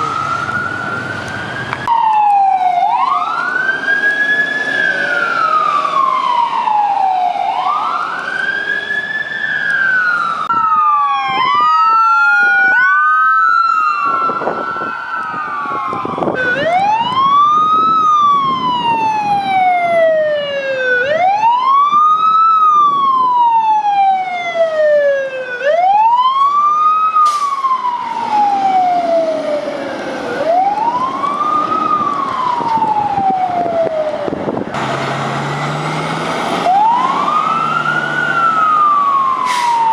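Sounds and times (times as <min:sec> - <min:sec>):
emergency vehicle sirens wailing: 0:00.0 - 0:39.9.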